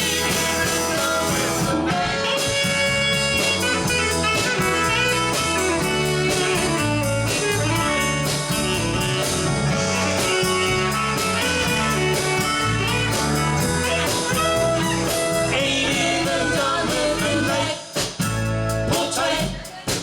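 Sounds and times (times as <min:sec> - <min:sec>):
electric guitar playing: 0:00.0 - 0:17.5
bass guitar: 0:00.0 - 0:19.7
drums steady beat: 0:00.0 - 0:20.0.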